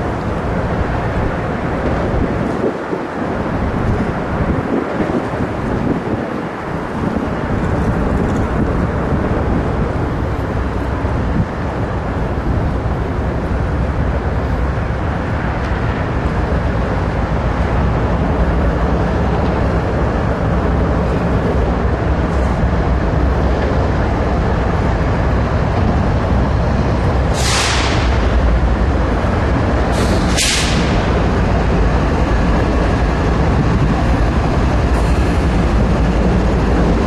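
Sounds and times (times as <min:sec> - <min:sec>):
train rumbling: 0:00.0 - 0:37.0.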